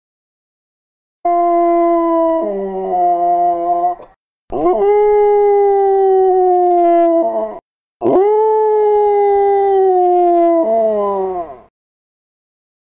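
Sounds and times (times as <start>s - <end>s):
recorded dog howling: 1.3s - 11.7s.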